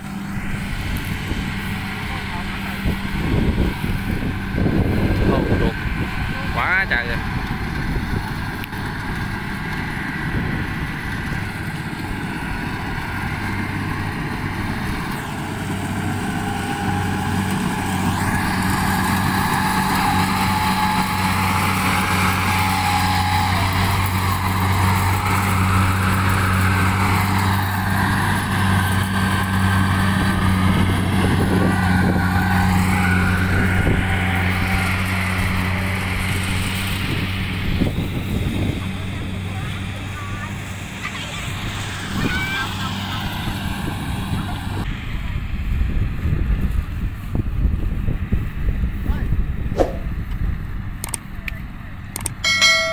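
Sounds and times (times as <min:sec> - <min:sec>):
harvester engine droning: 0:00.0 - 0:52.9.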